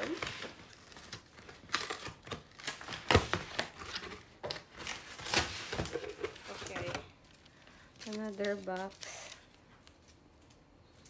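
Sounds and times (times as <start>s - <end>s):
cardboard rustling: 0.0s - 10.1s.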